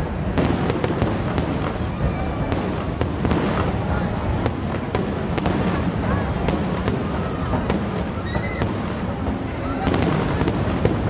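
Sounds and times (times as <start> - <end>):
fireworks bangs: 0.0 - 11.0
fireworks crackle and rumble: 0.0 - 11.0.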